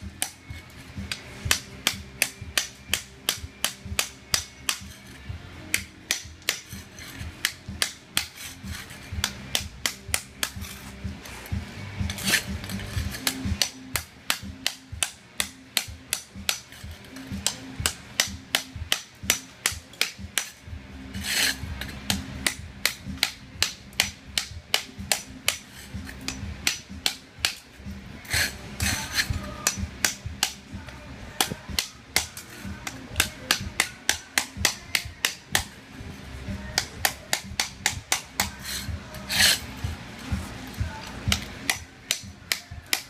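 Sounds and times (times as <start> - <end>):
hammer striking ceramic tile: 0.2 - 10.9, 11.5 - 27.6, 31.4 - 35.8, 36.7 - 39.6, 41.3 - 43.0.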